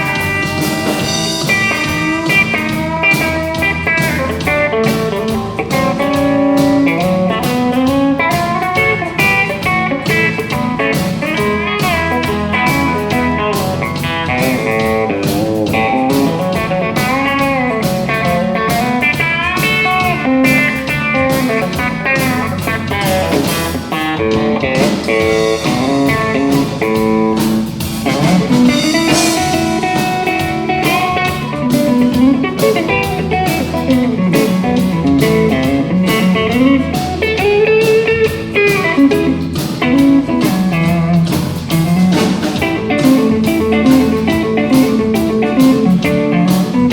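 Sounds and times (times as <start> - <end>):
pedal steel guitar sliding notes: 0.0 - 46.9
steady drum beat: 0.0 - 46.9.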